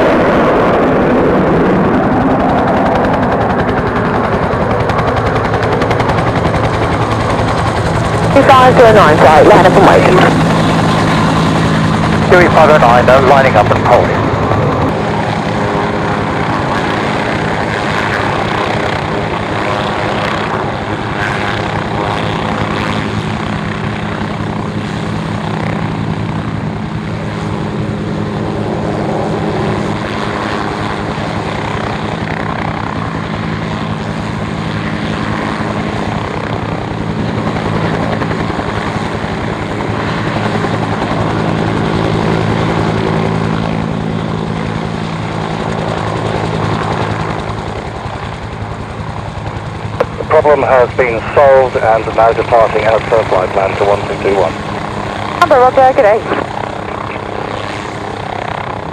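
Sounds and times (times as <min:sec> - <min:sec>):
propeller aircraft engines droning: 0:00.0 - 0:58.9.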